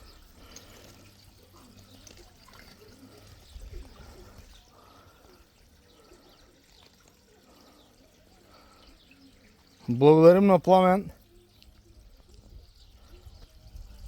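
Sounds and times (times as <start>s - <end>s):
water splashing from well: 0.0s - 14.0s.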